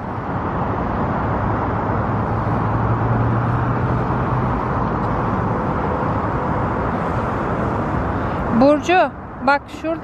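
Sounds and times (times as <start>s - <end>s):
city traffic hum: 0.0s - 10.0s.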